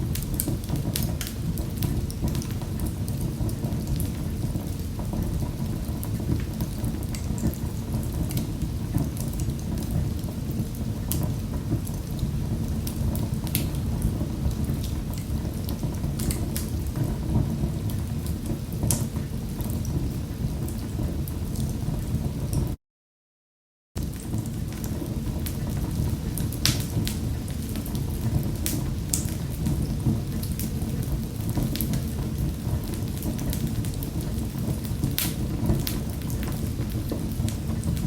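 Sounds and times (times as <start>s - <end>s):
wood fire crackling: 0.0s - 22.8s, 24.0s - 38.0s.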